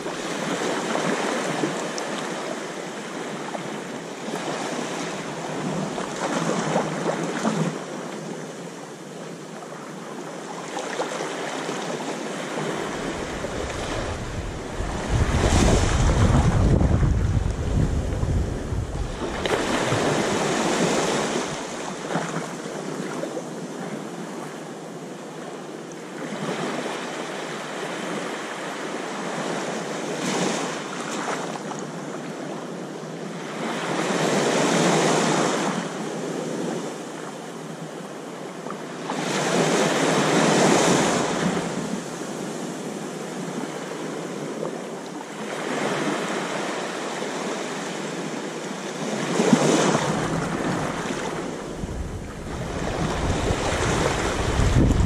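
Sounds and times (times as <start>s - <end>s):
small waves lapping on sand: 0.0s - 55.0s.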